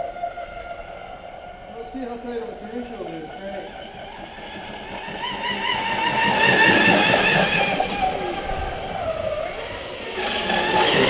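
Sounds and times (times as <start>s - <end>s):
electric boat motor whining: 0.0s - 11.0s.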